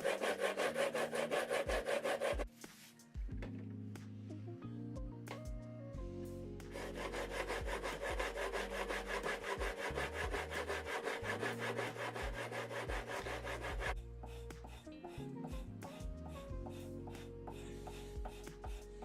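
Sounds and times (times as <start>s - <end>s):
faint background music: 0.0s - 19.0s.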